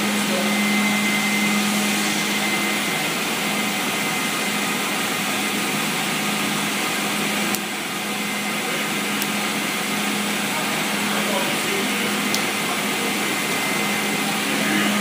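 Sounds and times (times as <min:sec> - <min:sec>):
machine whirring: 0:00.0 - 0:15.0.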